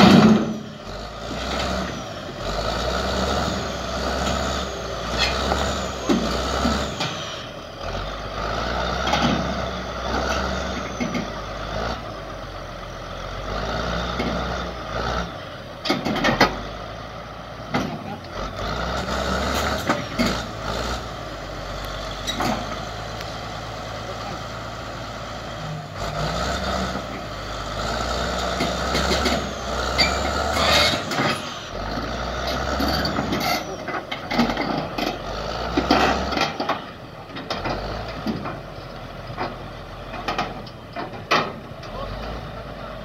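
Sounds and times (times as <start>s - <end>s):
bulldozer diesel engine working: 0.0s - 43.0s.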